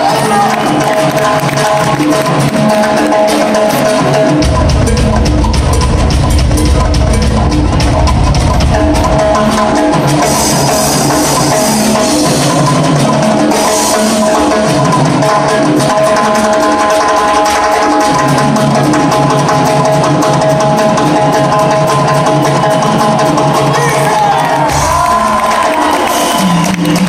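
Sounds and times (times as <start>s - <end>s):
dance orchestra playing live: 0.0s - 27.0s
drum kit and congas groove: 0.0s - 27.0s.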